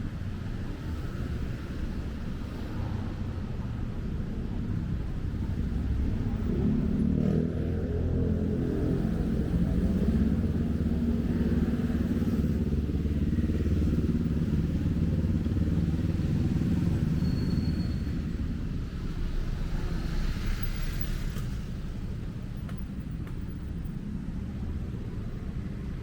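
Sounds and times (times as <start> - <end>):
car engines: 0.0 - 26.0
motorcycle engines: 0.0 - 26.0.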